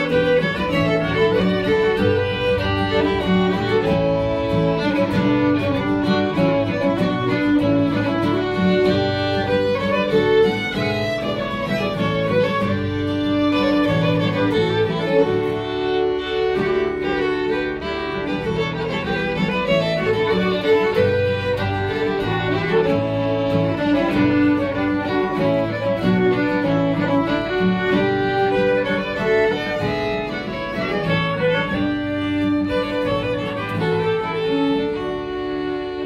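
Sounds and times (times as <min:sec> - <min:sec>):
fiddles playing melody: 0:00.0 - 0:36.0
strummed acoustic guitar: 0:00.0 - 0:36.0.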